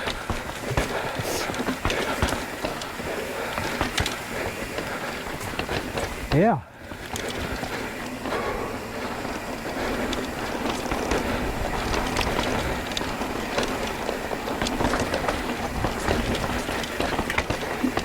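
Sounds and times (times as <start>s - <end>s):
bike chain and parts rattling: 0.0s - 18.0s
bike tyres rumbling on rocks: 0.0s - 18.0s.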